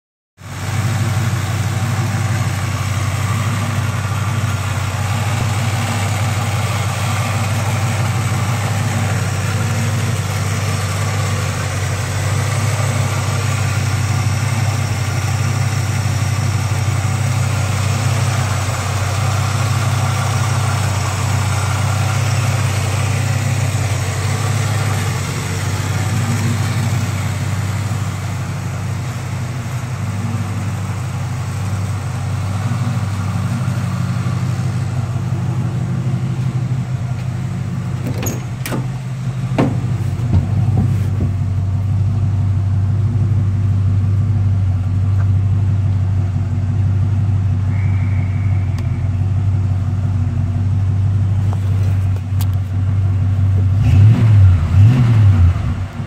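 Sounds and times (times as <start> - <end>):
car engine idling: 0.4 - 56.0.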